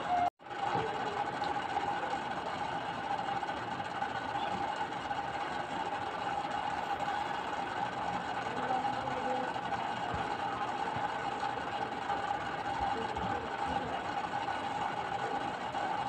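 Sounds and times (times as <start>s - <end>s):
machine-like hum: 0.0s - 16.0s.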